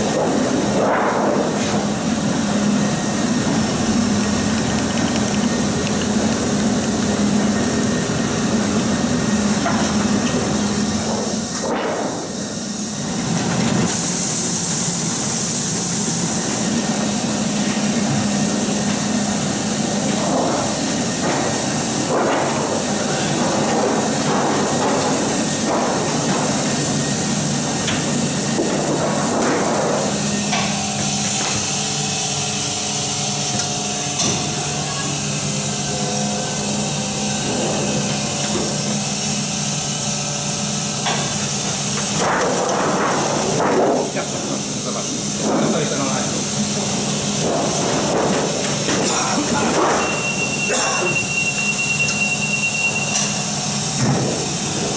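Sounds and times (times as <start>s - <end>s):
printing press running: 0.0s - 54.9s.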